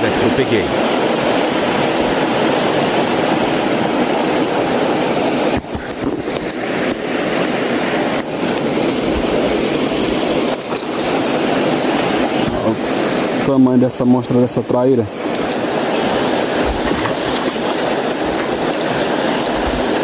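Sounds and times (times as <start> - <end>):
wind blowing across microphone: 0.0 - 13.8, 15.1 - 20.0.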